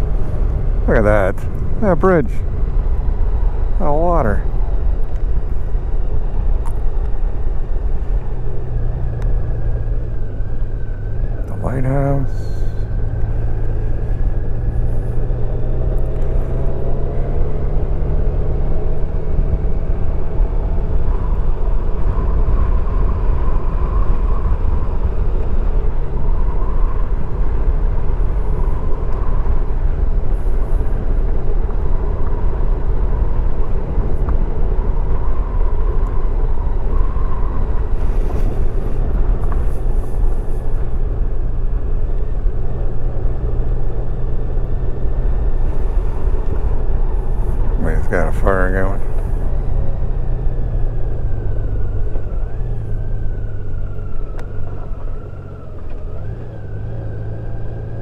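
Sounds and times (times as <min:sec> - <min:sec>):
motorcycle engine rumble: 0:00.0 - 0:58.0.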